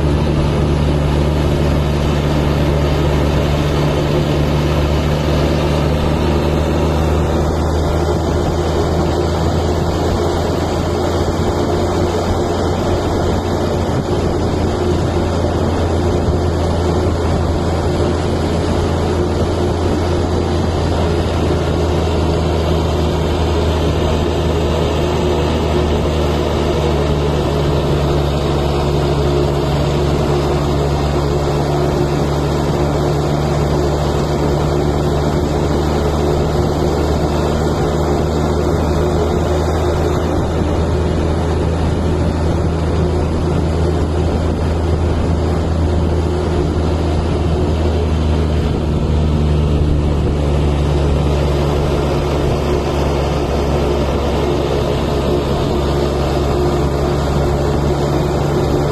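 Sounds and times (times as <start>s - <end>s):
road noise: 0.0s - 58.9s
truck diesel engine droning: 0.0s - 58.9s.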